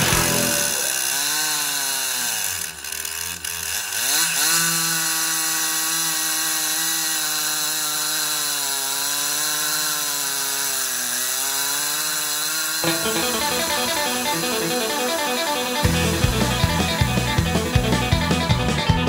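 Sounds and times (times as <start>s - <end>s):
chainsaw cutting a log: 0.0s - 19.0s.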